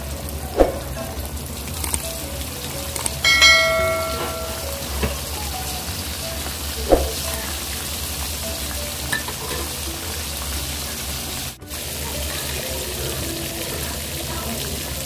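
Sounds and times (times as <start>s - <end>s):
meat deep-frying in oil: 0.0s - 15.0s.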